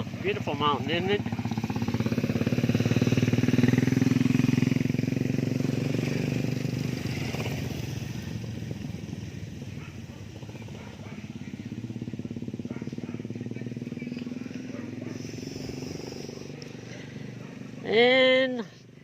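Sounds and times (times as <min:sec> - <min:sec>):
small motorcycle engine running: 0:00.0 - 0:19.0.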